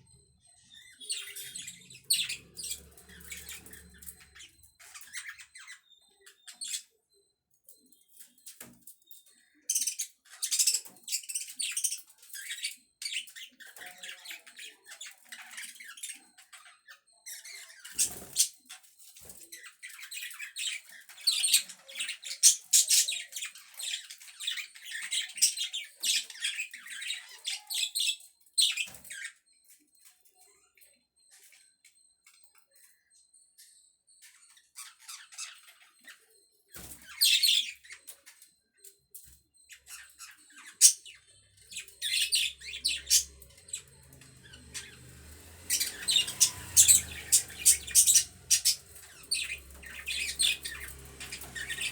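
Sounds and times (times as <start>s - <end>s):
budgerigars chattering and squawking: 0.0s - 6.9s, 9.7s - 29.4s, 34.2s - 38.4s, 39.7s - 51.9s.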